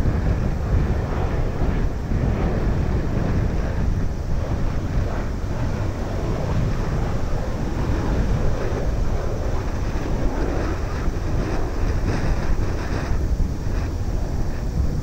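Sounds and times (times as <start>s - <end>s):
distant jet engine: 0.0s - 15.0s
wind buffeting microphone: 0.0s - 15.0s.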